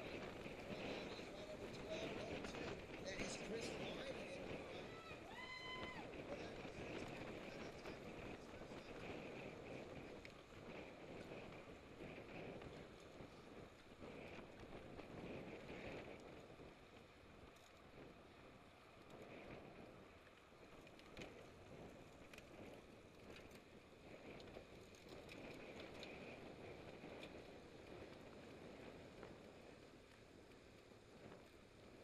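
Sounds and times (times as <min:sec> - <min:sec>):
bicycle tyre and drivetrain noise: 0:00.0 - 0:32.0
wind rush on microphone: 0:00.0 - 0:32.0.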